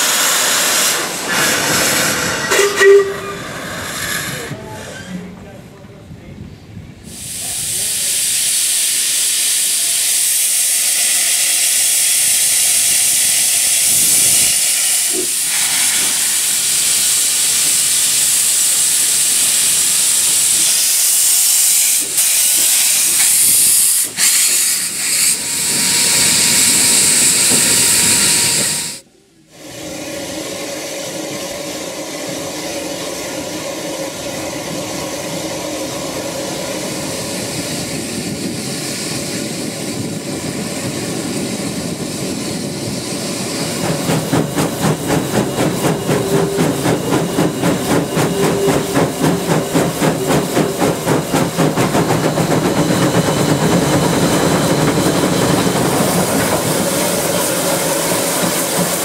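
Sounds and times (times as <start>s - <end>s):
steam locomotive hissing: 0.0s - 5.4s, 6.9s - 59.0s.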